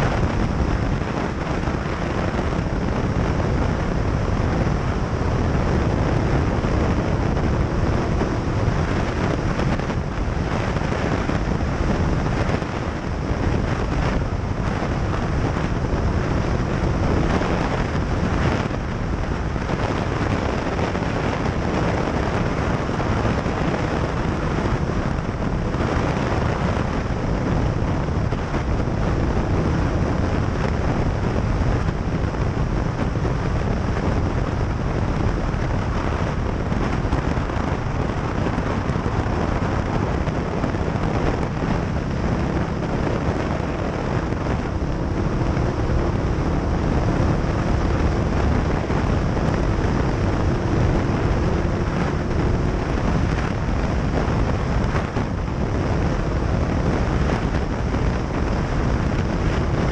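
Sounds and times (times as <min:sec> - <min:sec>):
motorcycle engine: 0:00.0 - 0:59.9
road noise: 0:00.0 - 0:59.9
wind buffeting microphone: 0:00.0 - 0:59.9.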